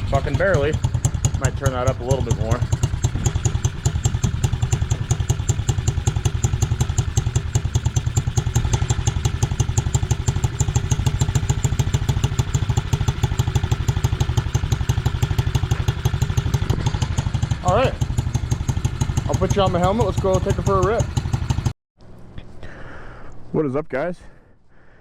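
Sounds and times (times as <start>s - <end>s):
motorbike engine idling: 0.0s - 21.7s.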